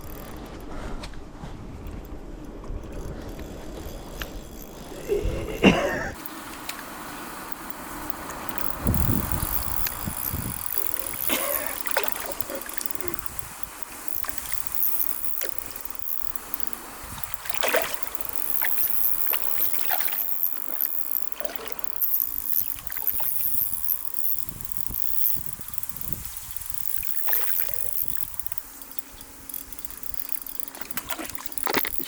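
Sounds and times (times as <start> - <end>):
water splashing and sloshing: 6.2 - 32.0.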